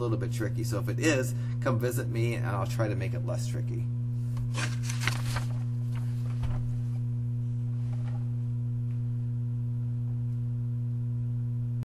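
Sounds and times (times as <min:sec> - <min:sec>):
electrical mains hum: 0:00.0 - 0:11.9.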